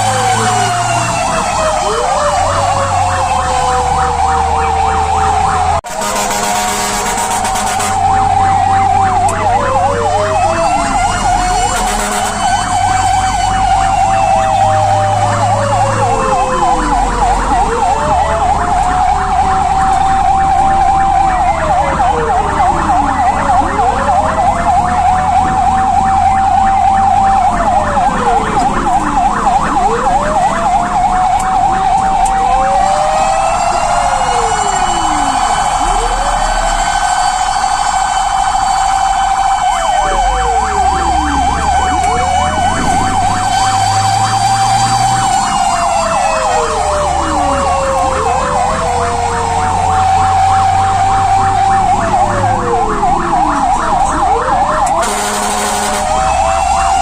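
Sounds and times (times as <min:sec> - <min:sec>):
fast warbling siren yelp: 0:00.0 - 0:57.0
fire engine siren wailing: 0:00.0 - 0:57.0
truck engine rumbling: 0:00.0 - 0:57.0.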